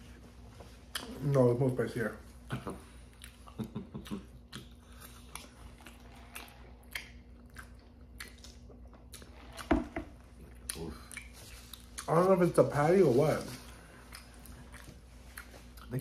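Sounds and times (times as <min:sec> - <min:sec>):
chewing and crunching: 0:02.4 - 0:12.6, 0:13.2 - 0:16.0.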